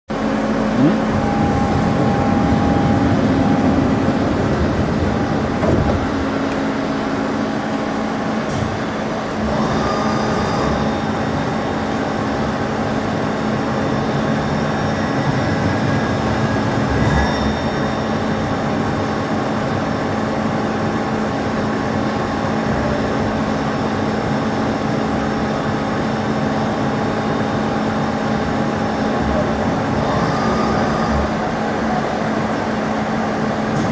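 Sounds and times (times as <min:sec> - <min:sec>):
lathe machine hum: 0:00.1 - 0:33.9.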